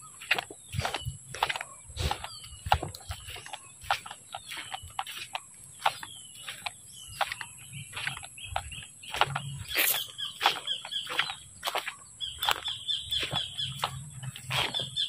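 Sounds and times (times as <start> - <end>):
footsteps through grass and brush: 0.0 - 15.0.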